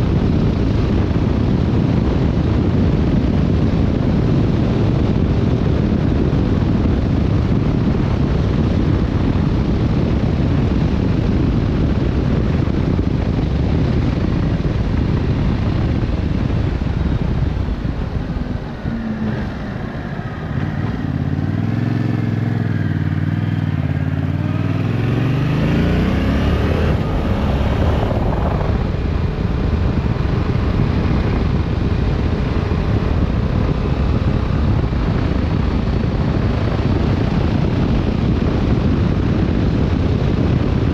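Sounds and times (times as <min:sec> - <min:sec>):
motorcycle engine running: 0:00.0 - 0:40.9
wind rush: 0:00.0 - 0:40.9.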